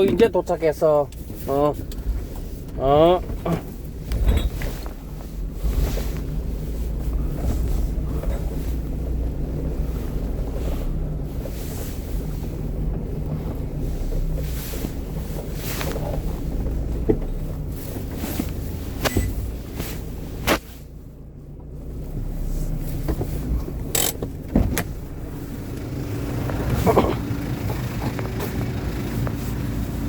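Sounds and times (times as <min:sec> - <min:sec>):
constant hum: 0:00.0 - 0:30.0
low rumble: 0:00.0 - 0:30.0.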